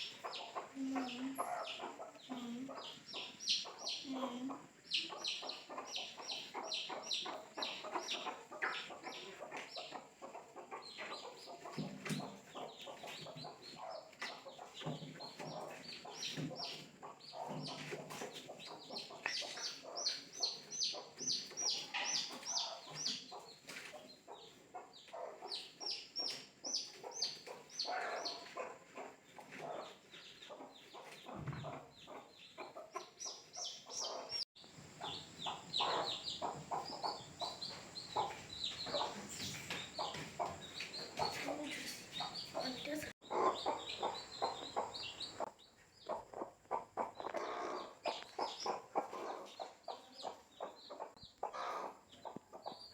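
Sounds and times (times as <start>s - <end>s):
chicks peeping: 0.0s - 52.9s
hen clucking: 0.0s - 52.9s.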